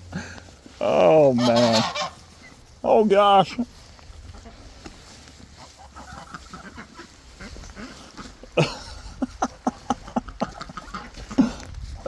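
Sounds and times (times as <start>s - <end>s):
goose honking: 0.8s - 11.6s.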